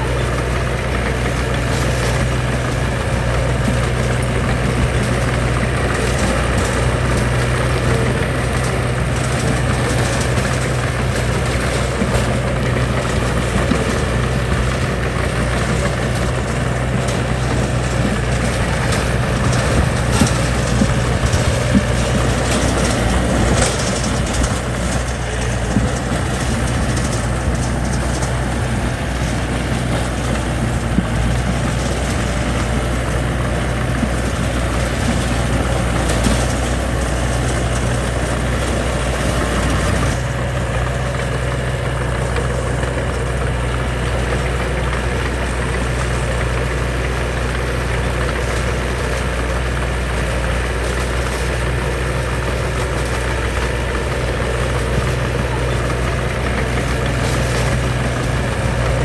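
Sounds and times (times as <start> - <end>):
diesel engine of heavy machinery: 0.0 - 59.0.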